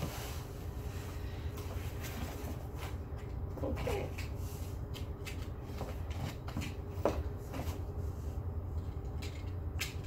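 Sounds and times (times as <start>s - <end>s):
cardboard and tape rustling: 0.0s - 8.3s.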